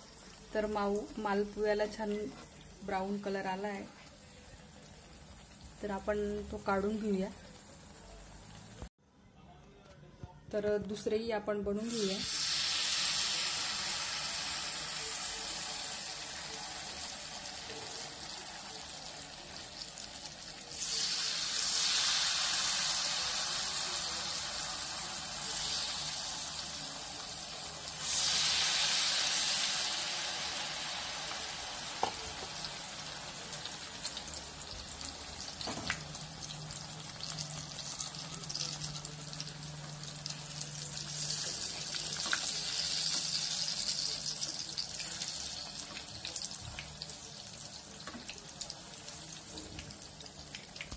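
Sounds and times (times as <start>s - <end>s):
batter sizzling in hot oil: 0.0s - 8.9s, 11.9s - 50.9s.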